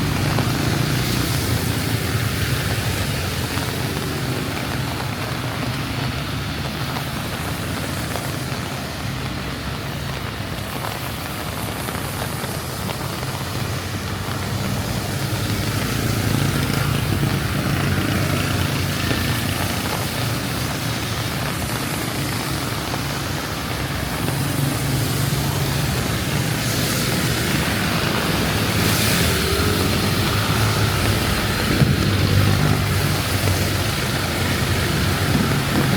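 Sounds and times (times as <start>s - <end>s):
heavy rain: 0.0s - 35.9s
tyres hissing on wet road: 0.0s - 35.9s
vehicle engines rumbling: 0.0s - 35.9s.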